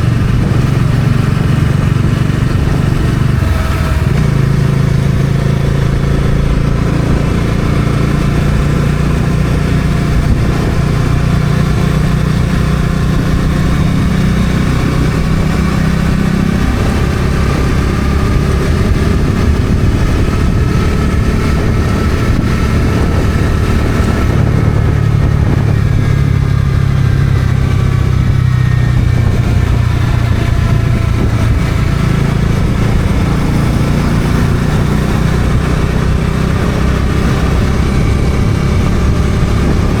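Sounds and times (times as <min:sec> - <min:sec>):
motorcycle engine running: 0:00.0 - 0:40.0
wind and road noise: 0:00.0 - 0:40.0.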